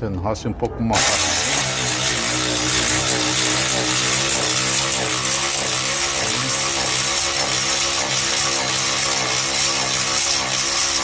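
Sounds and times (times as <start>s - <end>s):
motor humming: 1.0s - 11.0s.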